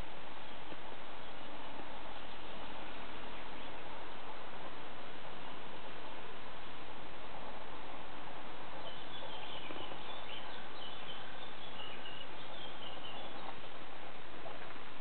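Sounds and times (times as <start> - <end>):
small birds twittering: 0.0 - 6.8, 8.6 - 13.8
outdoor background hiss: 0.0 - 15.0.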